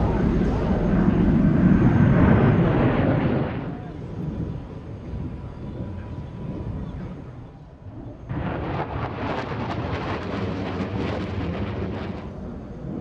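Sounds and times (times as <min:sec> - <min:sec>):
jet afterburner roar: 0:00.0 - 0:13.0
low rumble: 0:00.0 - 0:13.0.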